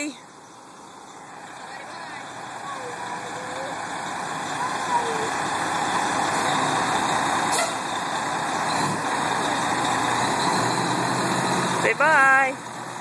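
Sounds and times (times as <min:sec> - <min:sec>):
fire engine running: 0:00.0 - 0:13.0.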